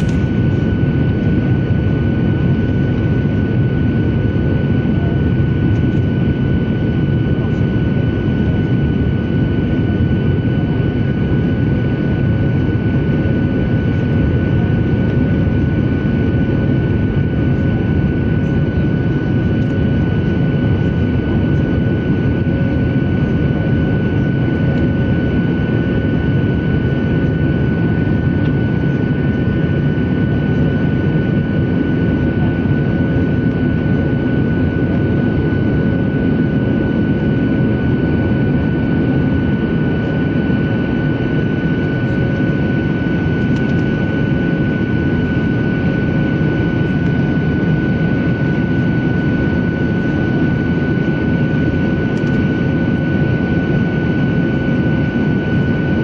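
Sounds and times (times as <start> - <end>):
high engine whine: 0.0 - 56.0
jet engines at climb power: 0.0 - 56.0.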